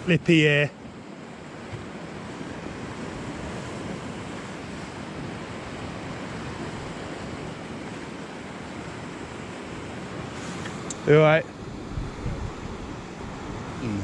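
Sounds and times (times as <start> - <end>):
sea surf breaking on rocks: 0.0 - 14.0
wind on microphone: 1.5 - 14.0.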